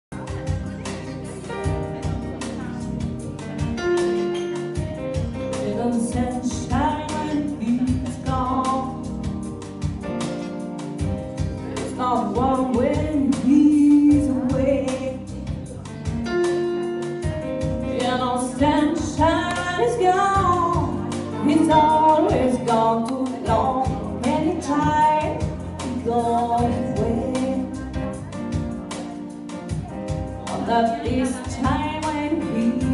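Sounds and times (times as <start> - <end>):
electric keyboard: 0.1 - 32.9
woman singing jazz: 1.5 - 32.9.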